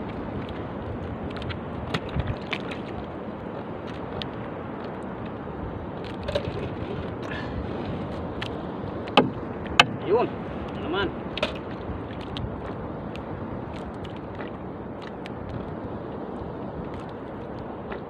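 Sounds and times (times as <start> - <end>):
water lapping against hull: 0.0 - 18.0.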